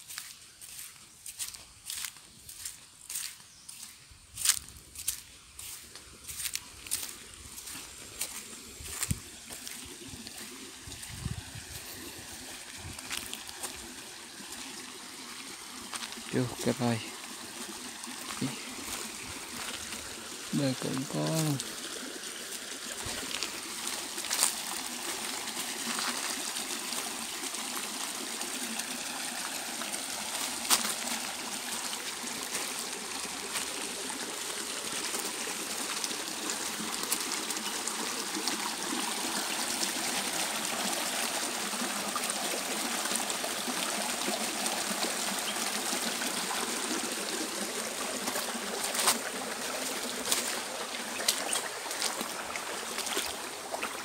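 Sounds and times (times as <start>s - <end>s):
stream trickling over stones: 0.0s - 54.0s.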